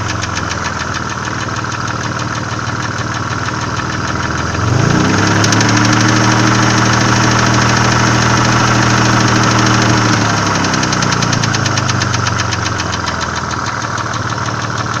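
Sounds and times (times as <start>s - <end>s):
car engine revving: 0.0s - 15.0s
engine ticking clatter: 0.0s - 15.0s.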